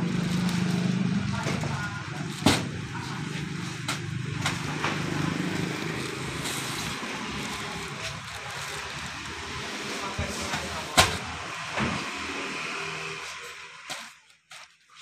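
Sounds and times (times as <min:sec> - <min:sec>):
paper sacks being handled: 0:00.0 - 0:12.4, 0:13.1 - 0:15.0.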